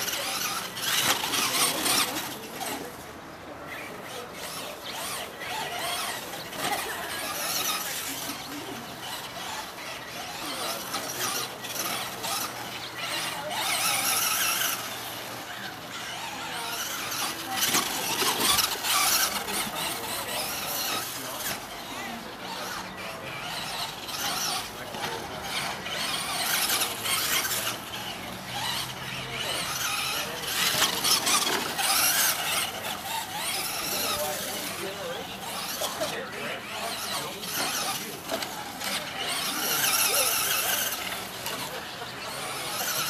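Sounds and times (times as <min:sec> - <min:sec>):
toy truck motor whining: 0:00.0 - 0:43.0.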